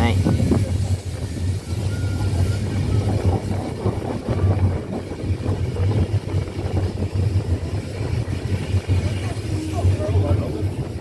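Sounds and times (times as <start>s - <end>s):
steam train rumble: 0.0s - 11.0s.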